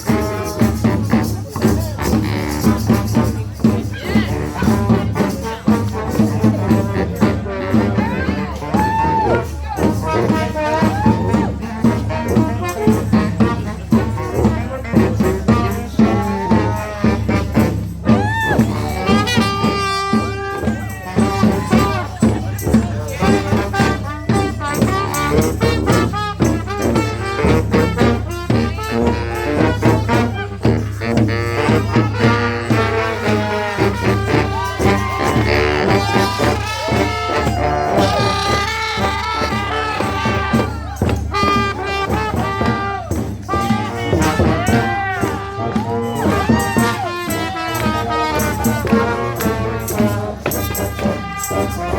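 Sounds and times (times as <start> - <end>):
percussion: 0.0 - 51.9
street brass band playing: 0.0 - 51.9.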